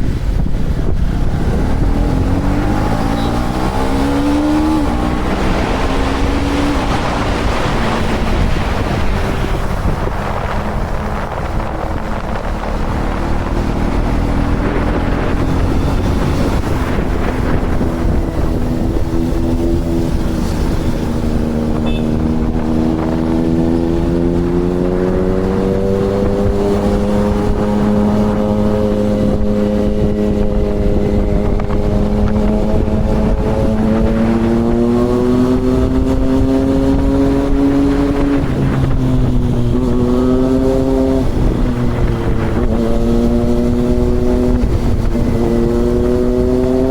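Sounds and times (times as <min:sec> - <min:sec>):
motorcycle engine running: 0:00.0 - 0:46.9
wind noise on microphone: 0:00.0 - 0:46.9.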